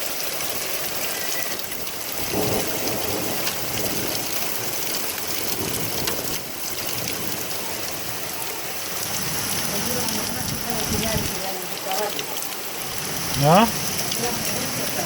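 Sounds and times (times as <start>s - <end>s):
heavy rain hiss: 0.0s - 15.0s
raindrops ticking on hard surfaces: 0.0s - 15.0s.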